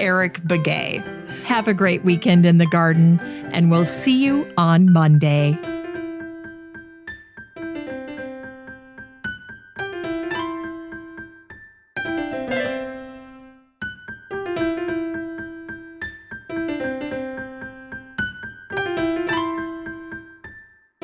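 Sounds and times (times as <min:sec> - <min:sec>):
piano notes ringing: 0:00.0 - 0:20.7.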